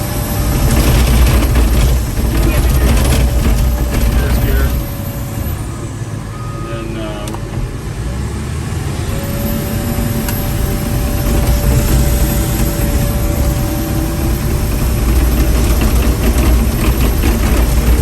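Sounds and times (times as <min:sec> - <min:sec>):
diesel engine rumbling: 0:00.0 - 0:18.0
thin steady whine: 0:00.0 - 0:18.0.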